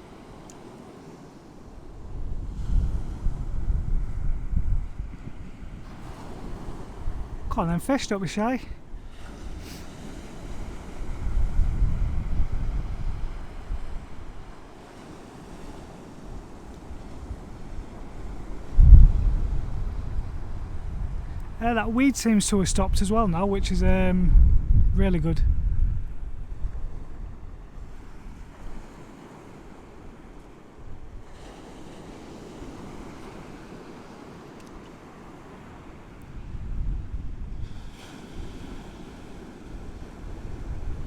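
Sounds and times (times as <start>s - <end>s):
surf washing on beach: 0.0s - 41.0s
wind on microphone: 1.8s - 7.8s, 8.6s - 33.2s, 36.2s - 41.0s.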